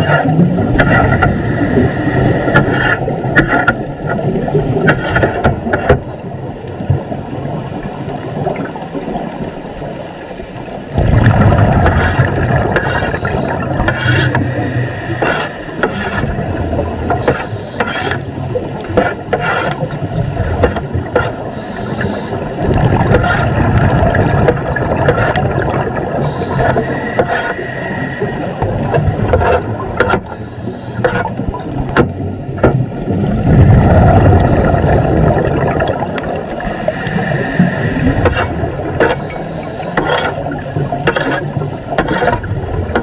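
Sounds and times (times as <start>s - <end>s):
exhaled regulator bubbles: 0.0s - 9.5s, 10.8s - 43.0s.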